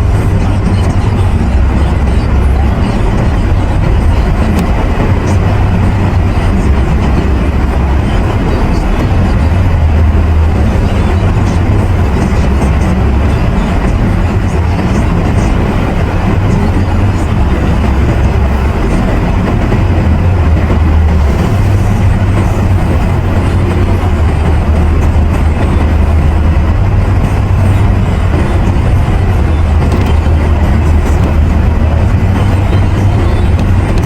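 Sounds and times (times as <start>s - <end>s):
road noise inside moving car: 0.0s - 34.0s.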